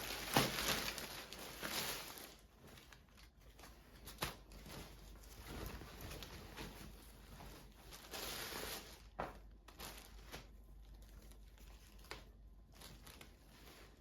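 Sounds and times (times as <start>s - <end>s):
material rustling and crinkling: 0.0s - 14.0s.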